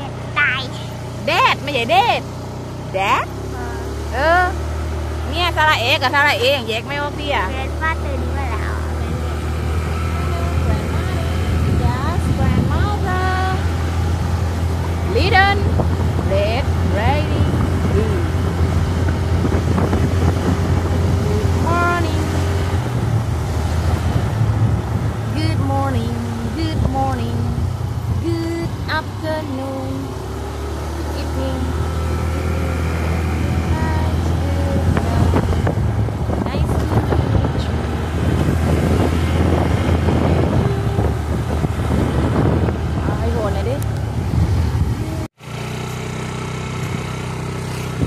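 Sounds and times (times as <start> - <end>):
motorbike engine running: 0.0 - 48.0
wind buffeting microphone: 5.2 - 45.3.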